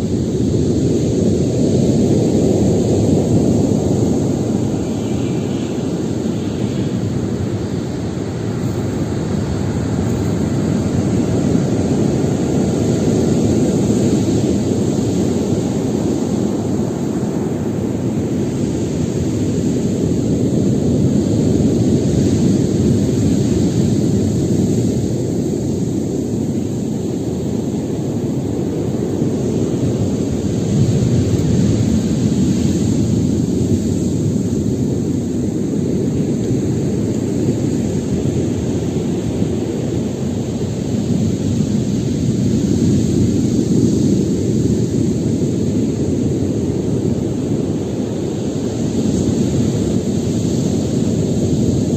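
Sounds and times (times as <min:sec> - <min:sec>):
heavy waves breaking: 0:00.0 - 0:51.9.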